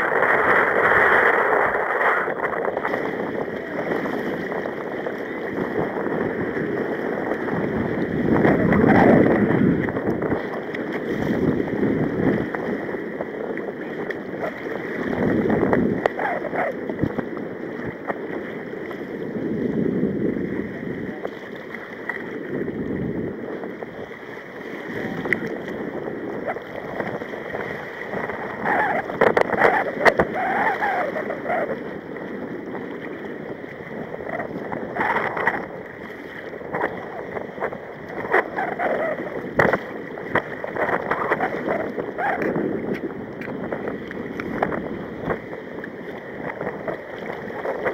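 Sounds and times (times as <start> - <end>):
water slapping kayak hull: 0.0 - 47.9
wind on microphone: 0.0 - 47.9.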